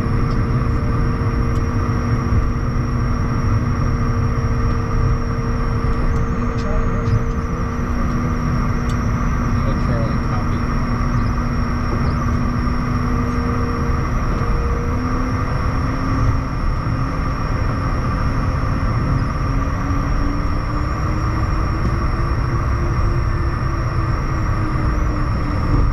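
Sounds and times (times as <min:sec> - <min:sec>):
jet engine rumble and whine: 0:00.0 - 0:25.9
low tone rising in pitch: 0:00.0 - 0:25.9.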